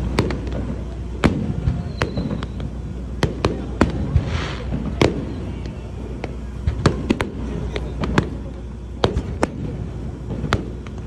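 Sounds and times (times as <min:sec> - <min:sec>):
fireworks bursting bangs: 0:00.0 - 0:11.0.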